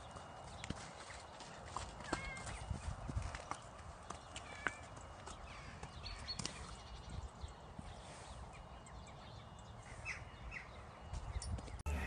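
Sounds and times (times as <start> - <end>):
hooves on muddy ground: 0.0 - 12.0.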